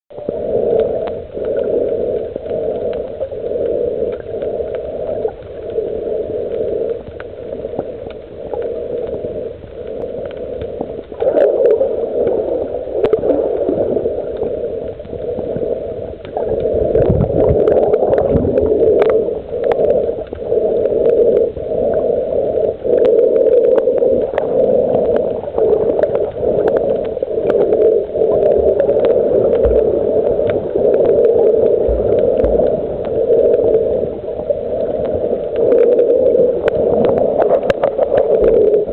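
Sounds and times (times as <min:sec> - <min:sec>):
deep underwater rumble: 0:00.1 - 0:38.9
underwater churning hum: 0:00.1 - 0:38.9
faint clicks: 0:00.2 - 0:38.9.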